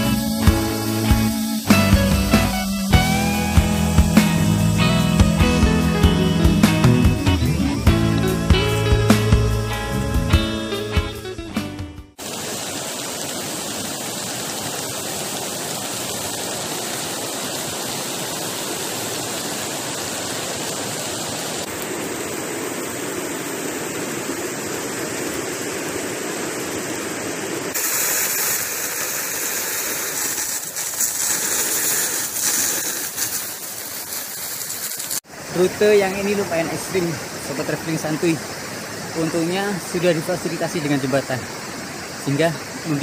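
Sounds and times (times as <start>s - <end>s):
heavy rain: 0.0s - 11.4s, 12.2s - 43.0s
river rushing: 0.0s - 11.6s, 12.2s - 43.0s.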